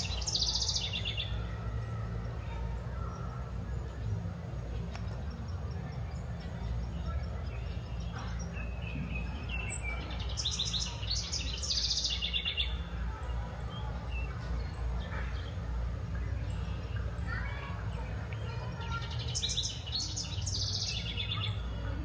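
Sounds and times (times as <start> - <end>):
low background noise: 0.0 - 22.0
songbird singing: 0.0 - 22.0.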